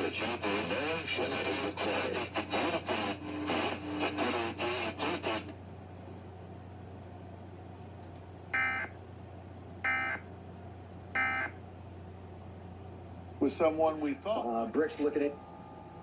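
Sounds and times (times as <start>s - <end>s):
low broadcast hum: 0.0s - 16.0s.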